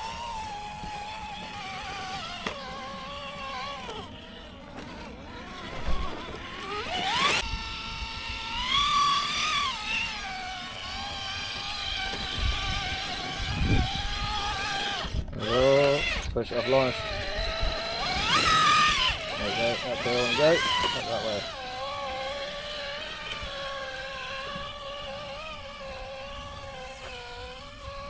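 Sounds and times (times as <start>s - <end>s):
electric motor and gears whining: 0.0s - 28.0s.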